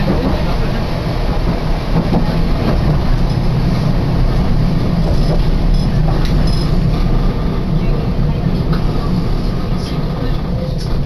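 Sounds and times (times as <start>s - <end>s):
electric train running: 0.0s - 11.0s.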